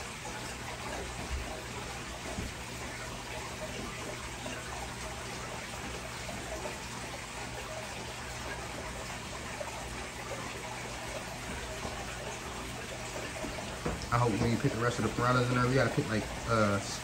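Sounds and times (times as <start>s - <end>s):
aquarium water trickling and splashing: 0.0s - 17.0s.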